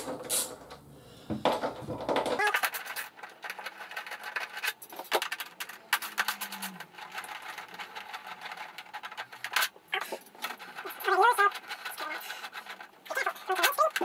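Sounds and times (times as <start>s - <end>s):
hand tools clicking and rattling: 2.1s - 14.0s.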